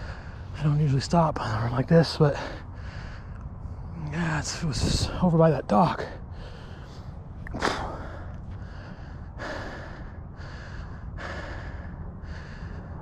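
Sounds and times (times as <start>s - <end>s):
man breathing heavily: 0.0s - 0.7s, 1.4s - 5.2s, 6.0s - 13.0s
low wind rumble on microphone: 0.0s - 13.0s.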